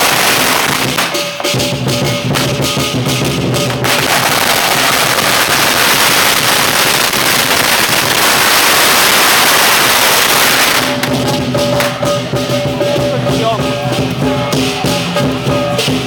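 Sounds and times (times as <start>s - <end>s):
firecrackers crackling: 0.0s - 16.0s
lion dance percussion: 0.0s - 16.0s.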